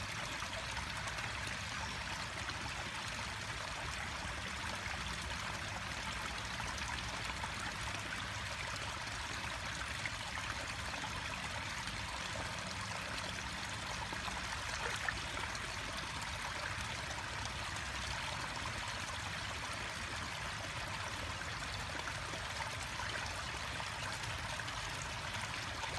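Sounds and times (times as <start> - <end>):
water trickling into pond: 0.0 - 25.9.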